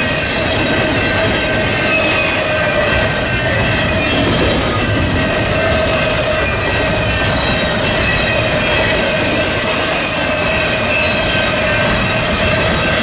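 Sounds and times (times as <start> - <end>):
rumble of freight cars: 0.0 - 13.0
train wheels squealing: 0.0 - 13.0.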